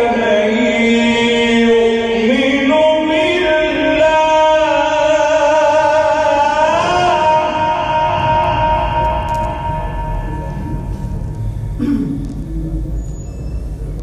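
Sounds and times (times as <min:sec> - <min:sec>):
man chanting melodically: 0:00.0 - 0:11.5.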